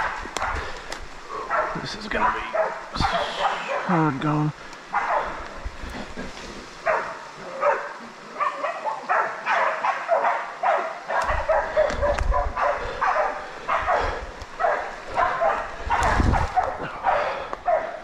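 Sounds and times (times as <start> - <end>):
dogs barking: 0.0 - 4.0, 4.9 - 5.6, 6.8 - 18.0.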